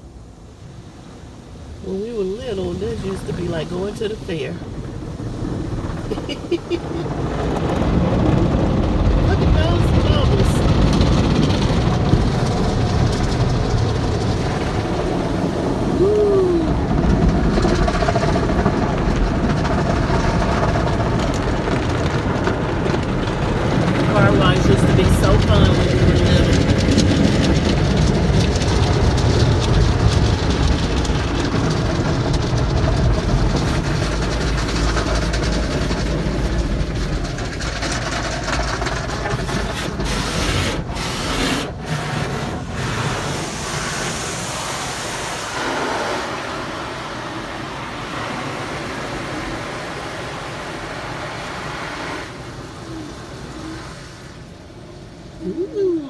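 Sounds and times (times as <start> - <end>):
car wash water spray and machinery: 0.0 - 56.0.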